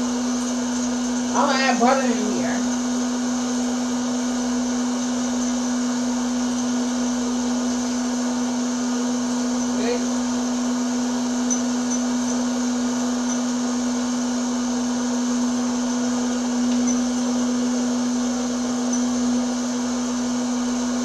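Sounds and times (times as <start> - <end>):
popcorn popper fan humming: 0.0 - 21.0.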